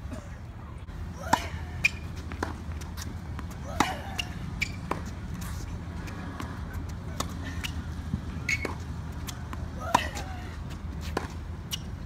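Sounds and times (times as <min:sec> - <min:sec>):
tennis balls hit and bouncing: 0:01.0 - 0:12.0.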